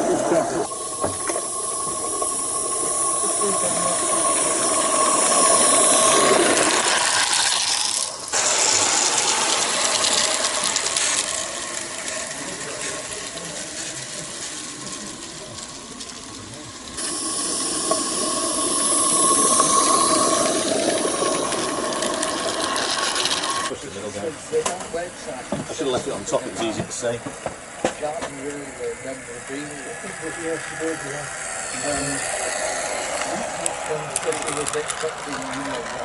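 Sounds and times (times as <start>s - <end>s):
hissing rushing noise: 0.0s - 23.7s, 28.6s - 36.0s.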